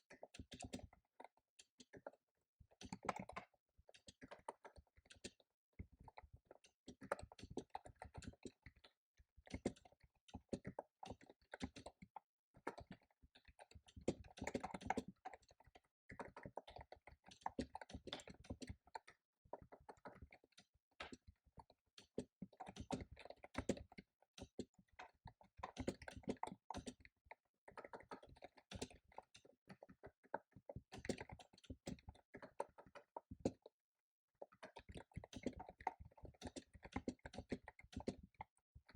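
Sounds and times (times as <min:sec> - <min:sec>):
typing on a computer keyboard: 0:00.0 - 0:33.8, 0:34.4 - 0:38.9.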